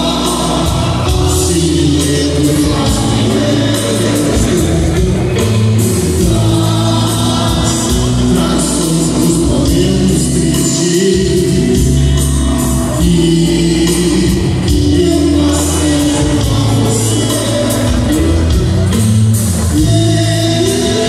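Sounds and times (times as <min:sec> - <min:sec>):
drums: 0:00.0 - 0:21.0
live band playing: 0:00.0 - 0:21.0
man singing: 0:00.0 - 0:21.0.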